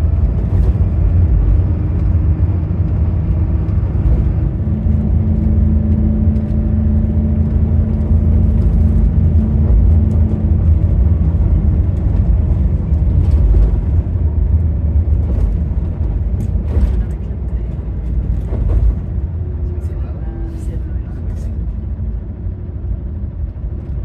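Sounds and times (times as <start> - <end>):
faint engine hum: 0.0 - 24.0
moving vehicle rumble: 0.0 - 24.0.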